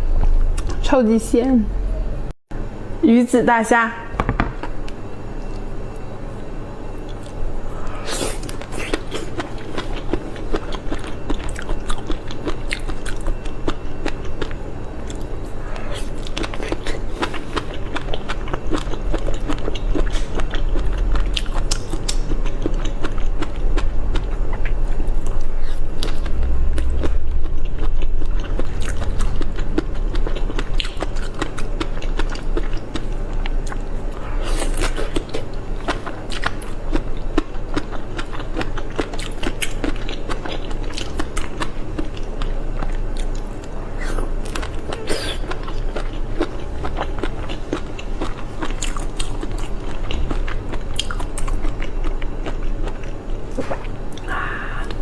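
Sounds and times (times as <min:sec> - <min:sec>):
person chewing food: 0:07.0 - 0:55.0.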